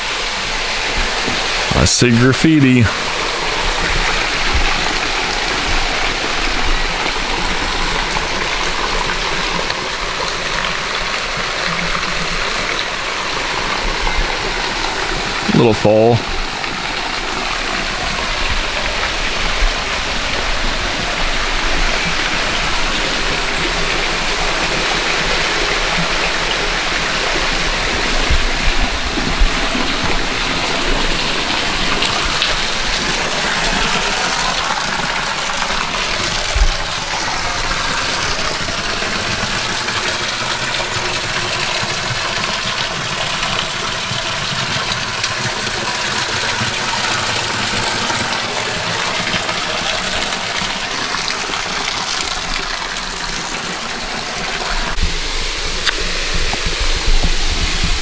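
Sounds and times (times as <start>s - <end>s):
waterfall splashing onto stones: 0.0s - 1.7s, 2.5s - 58.0s.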